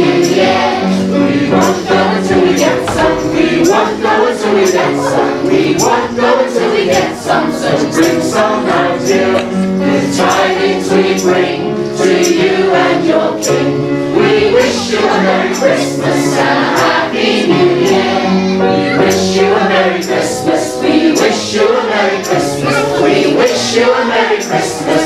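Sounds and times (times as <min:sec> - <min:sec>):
choir singing: 0:00.0 - 0:25.0
instrumental music: 0:00.0 - 0:25.0.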